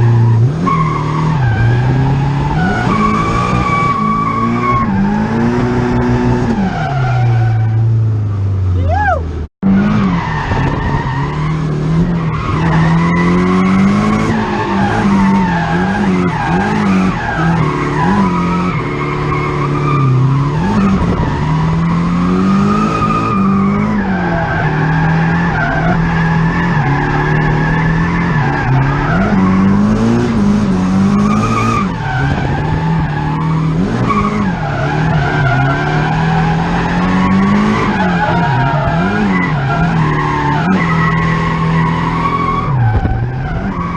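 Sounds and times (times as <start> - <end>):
car engine revving high: 0.0 - 8.2, 9.6 - 43.9.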